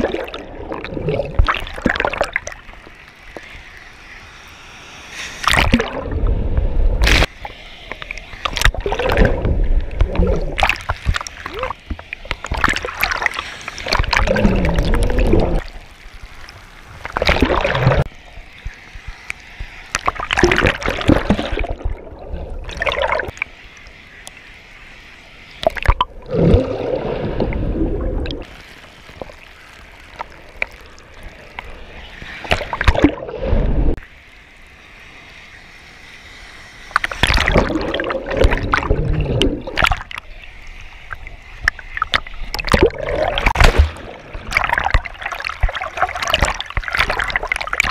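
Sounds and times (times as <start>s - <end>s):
waves splashing over camera: 0.0s - 47.9s.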